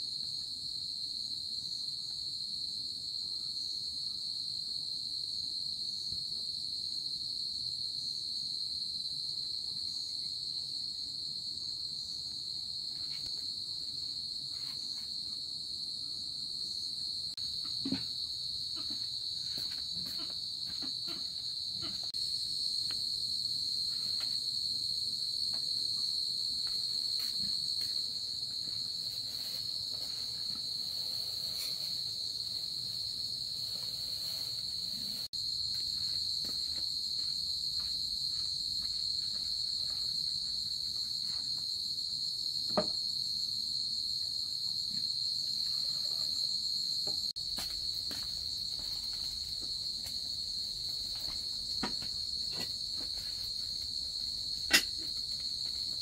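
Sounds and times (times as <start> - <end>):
crickets chirring: 0.3 - 56.0.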